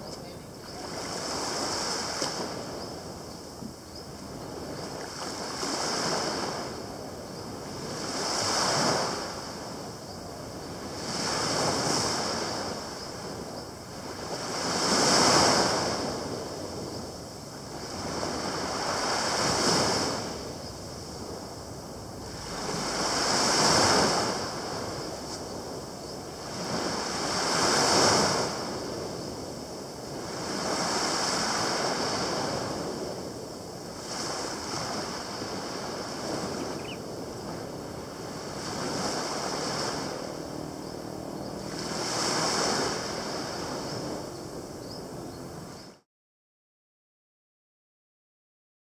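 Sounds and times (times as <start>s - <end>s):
small waves breaking on sand: 0.0s - 46.0s.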